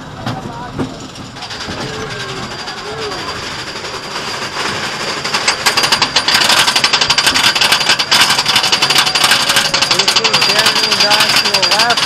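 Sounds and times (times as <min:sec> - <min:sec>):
roller coaster rattling on track: 0:00.0 - 0:12.0.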